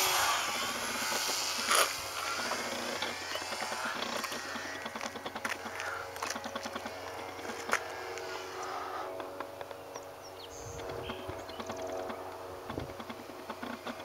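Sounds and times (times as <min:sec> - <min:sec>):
distant model plane motor: 0:00.0 - 0:14.0.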